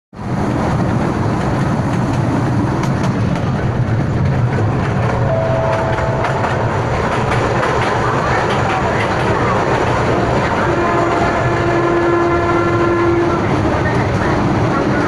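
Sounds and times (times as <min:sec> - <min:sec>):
train wheels rumbling on track: 0:00.2 - 0:15.0.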